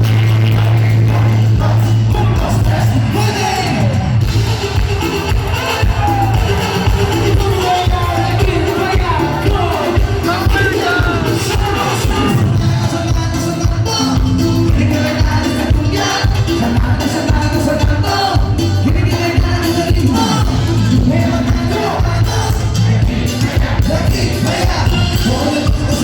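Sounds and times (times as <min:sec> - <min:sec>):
live cumbia band playing: 0:00.0 - 0:26.0.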